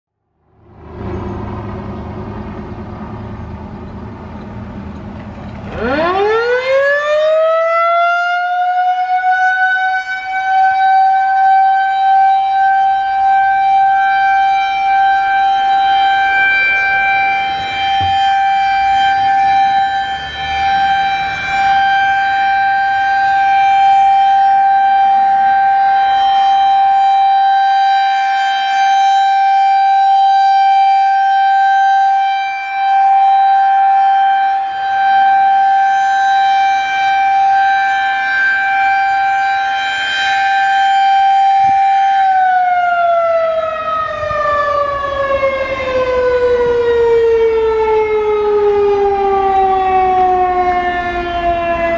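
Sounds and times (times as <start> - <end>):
rotating warning siren: 0.2 - 51.9.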